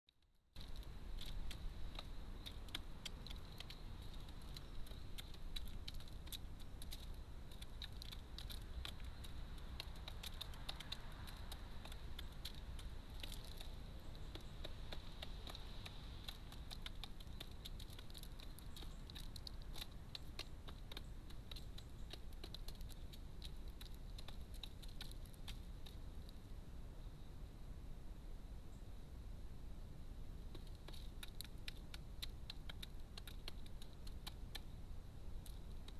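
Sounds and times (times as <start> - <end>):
low steady hum: 0.1 - 35.9
pigeons pecking seed: 0.5 - 26.4, 30.4 - 35.9.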